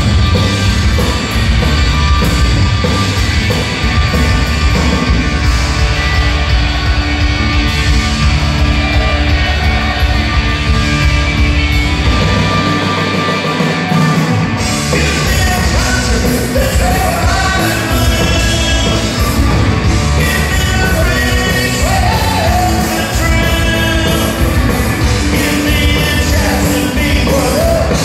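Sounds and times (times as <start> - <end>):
bass guitar: 0.0 - 28.0
distorted electric guitars: 0.0 - 28.0
drum kit: 0.0 - 28.0.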